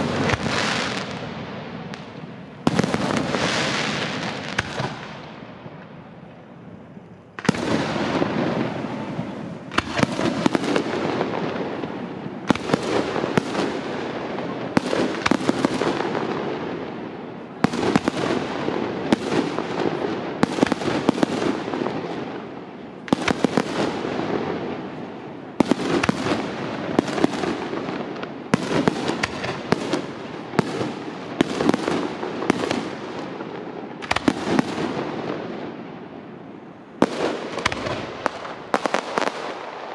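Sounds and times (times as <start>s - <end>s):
fireworks bursting: 0.0s - 6.3s, 7.3s - 39.9s.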